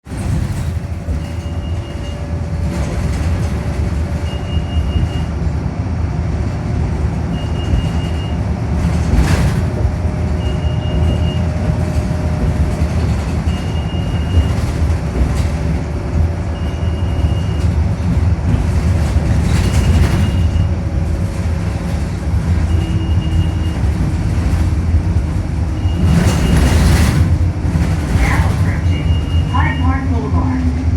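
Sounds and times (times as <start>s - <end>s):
bus engine and road rumble: 0.0s - 30.9s.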